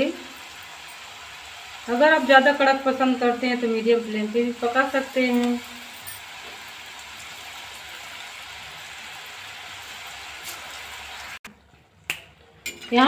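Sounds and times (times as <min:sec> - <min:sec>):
chips sizzling in hot oil: 0:00.0 - 0:11.5.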